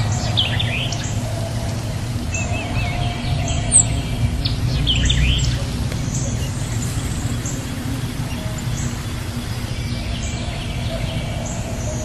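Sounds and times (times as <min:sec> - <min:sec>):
songbirds chirping: 0:00.0 - 0:12.0
steady low rumble: 0:00.0 - 0:12.0.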